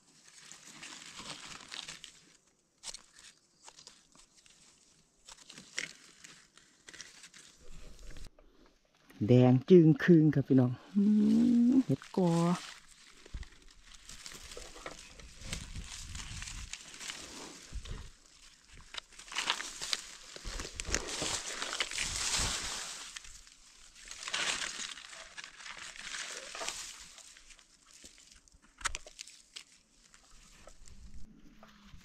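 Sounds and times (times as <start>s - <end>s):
dry leaves rustling and crunching: 0.0s - 8.3s, 10.9s - 32.0s.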